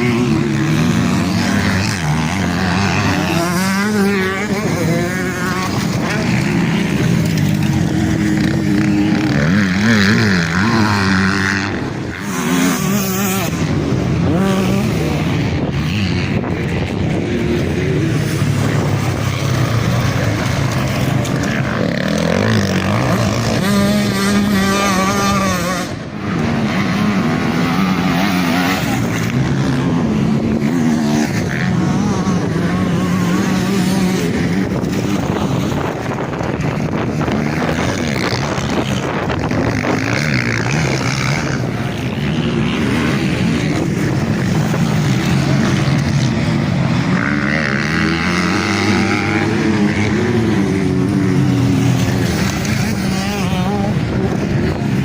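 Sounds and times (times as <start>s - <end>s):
motocross bikes revving: 0.0s - 55.0s.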